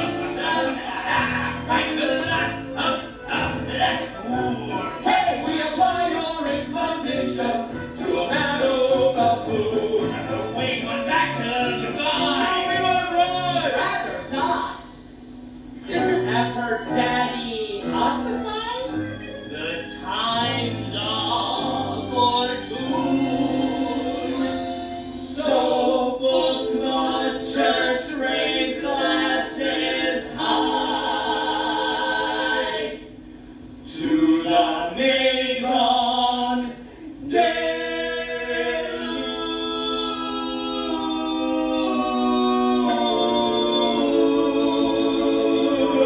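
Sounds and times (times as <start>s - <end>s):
voices singing together: 0.0s - 14.8s, 19.6s - 33.2s, 33.8s - 46.0s
musical accompaniment: 0.0s - 34.8s, 37.4s - 46.0s.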